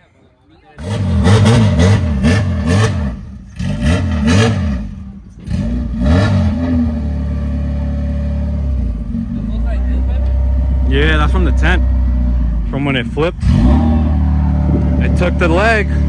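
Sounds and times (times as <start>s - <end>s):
car engine revving and idling: 0.8s - 16.0s.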